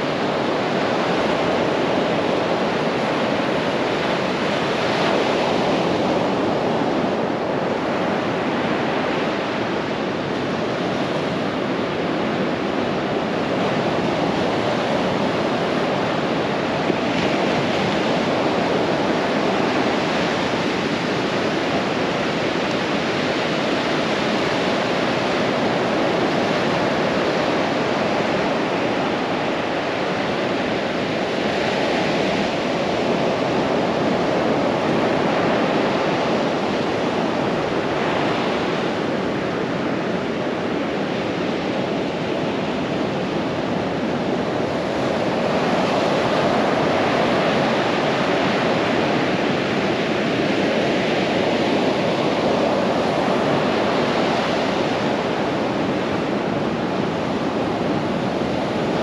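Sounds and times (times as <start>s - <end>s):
surf breaking on beach: 0.0s - 59.0s.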